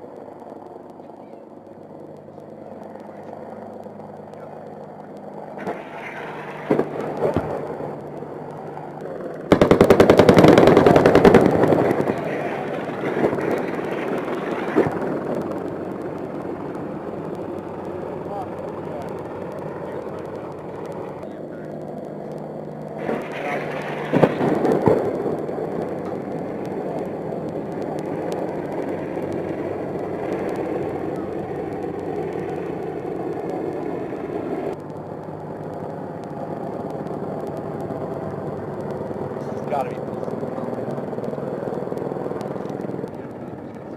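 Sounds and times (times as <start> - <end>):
helicopter drone: 0.0 - 43.9.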